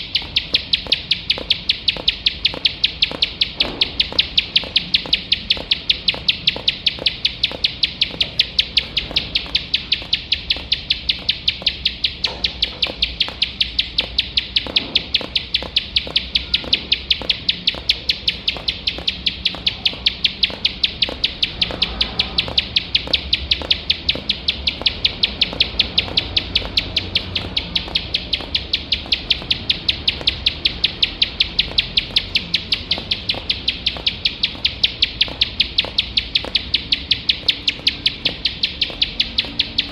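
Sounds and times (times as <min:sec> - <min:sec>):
bird calling sharp high notes: 0:00.0 - 0:39.9.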